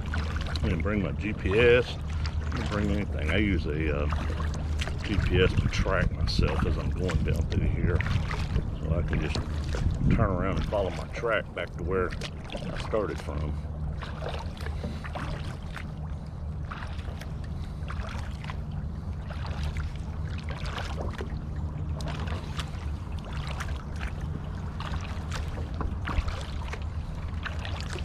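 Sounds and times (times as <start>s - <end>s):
paddle splashing into water: 0.0s - 28.0s
steady low rumble: 0.0s - 28.0s.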